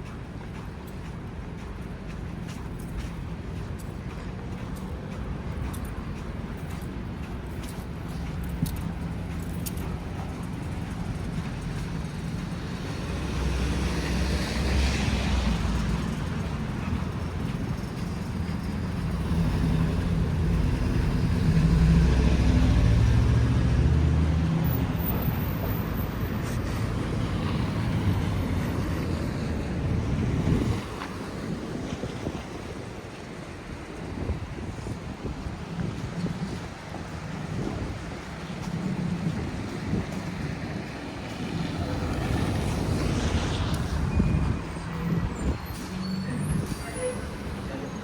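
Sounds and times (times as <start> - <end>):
vehicles passing on street: 0.0 - 48.0.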